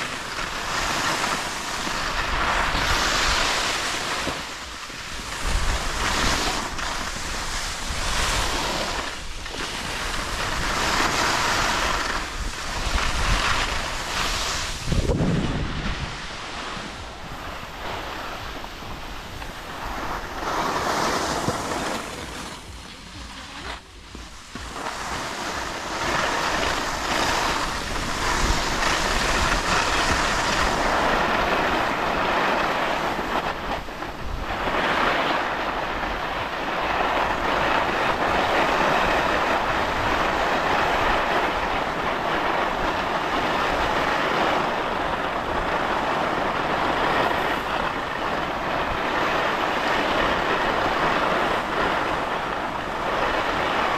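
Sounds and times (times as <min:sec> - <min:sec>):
skis scraping over packed snow: 0:00.0 - 0:53.9.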